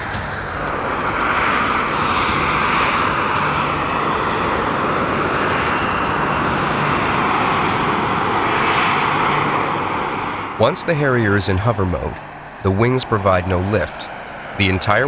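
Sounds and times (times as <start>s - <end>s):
jet engine rush: 0.0s - 15.0s.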